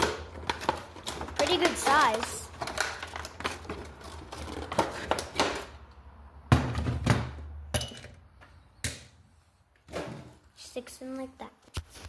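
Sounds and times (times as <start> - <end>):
hard objects knocking and clunking: 0.0 - 9.2, 9.8 - 10.4.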